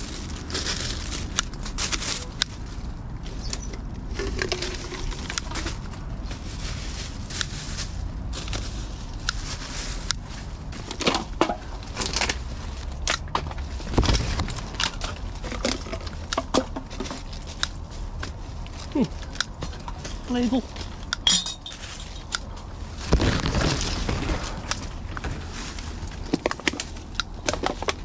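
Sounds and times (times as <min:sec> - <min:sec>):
dry leaves crackling and rustling: 0:00.0 - 0:28.0.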